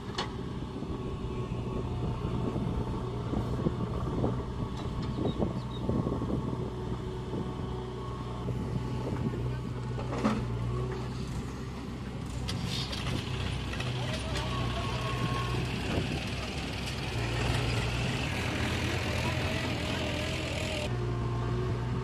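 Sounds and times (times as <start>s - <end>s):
diesel engine under load: 0.0s - 22.0s
tractor engine running: 0.0s - 22.0s.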